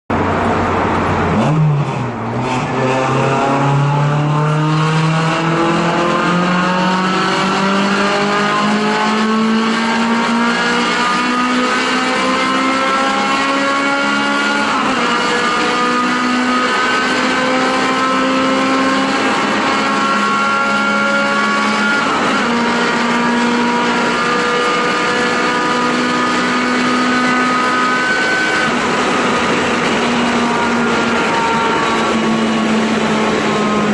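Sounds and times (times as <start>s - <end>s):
car engine accelerating hard: 0.1s - 33.9s.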